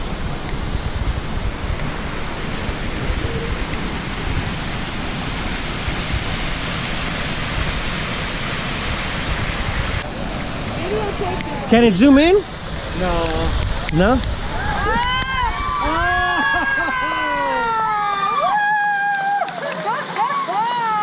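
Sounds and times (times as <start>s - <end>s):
rush of water: 0.0s - 21.0s.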